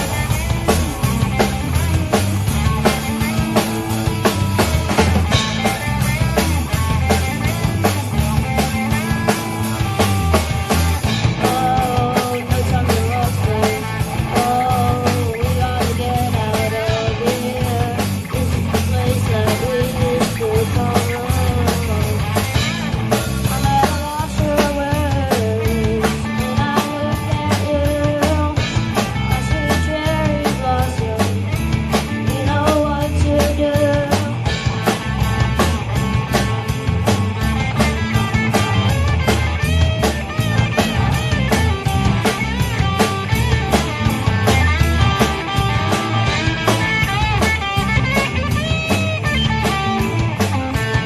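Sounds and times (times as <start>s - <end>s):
drum kit beat: 0.0s - 51.0s
rock music: 0.0s - 51.0s.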